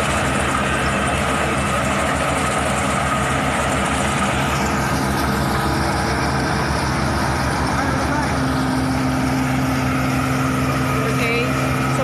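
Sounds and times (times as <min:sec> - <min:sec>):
harvester engine throbbing: 0:00.0 - 0:12.0.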